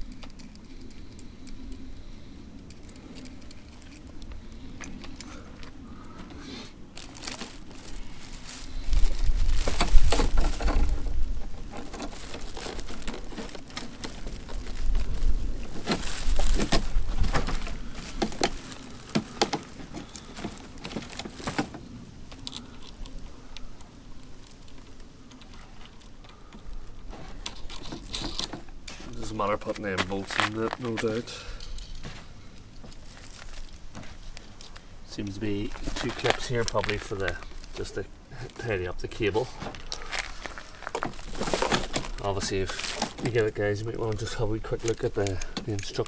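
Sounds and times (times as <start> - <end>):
plastic crinkling and rustling: 2.6 - 46.0.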